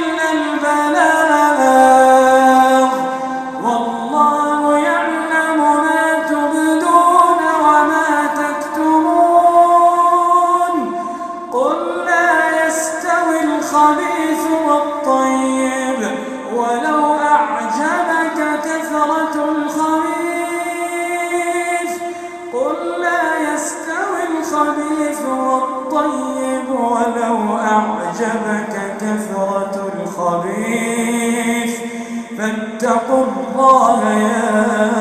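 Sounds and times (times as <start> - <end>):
man chanting melodic recitation: 0.0 - 35.0.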